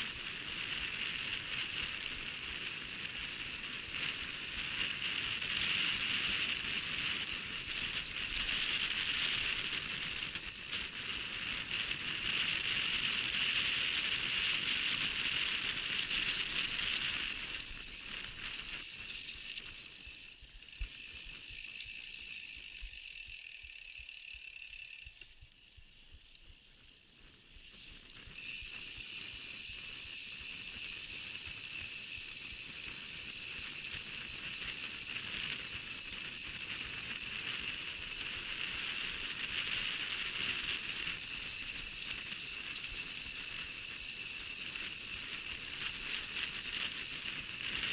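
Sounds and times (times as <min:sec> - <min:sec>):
bike rattling: 0:00.0 - 0:47.9
bike tyres hissing on dirt: 0:00.0 - 0:47.9.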